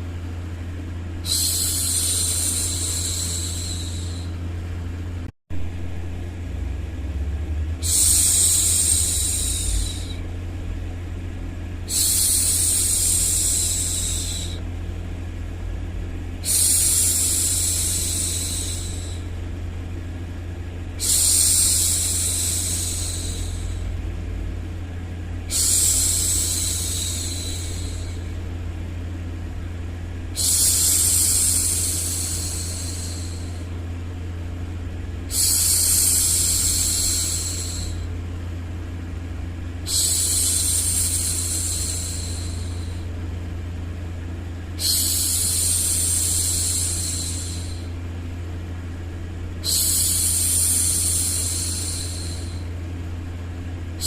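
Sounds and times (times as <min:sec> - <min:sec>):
low white noise hum: 0:00.0 - 0:54.0.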